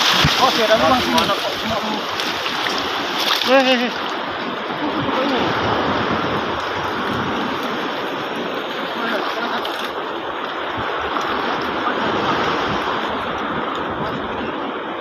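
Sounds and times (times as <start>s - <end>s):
sea surf washing on shore: 0.0s - 15.0s.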